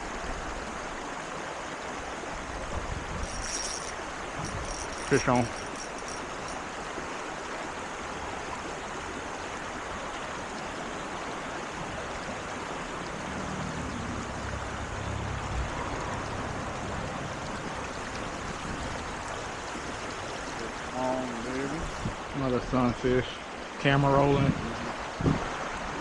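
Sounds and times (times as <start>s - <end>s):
creek water running: 0.0s - 26.0s.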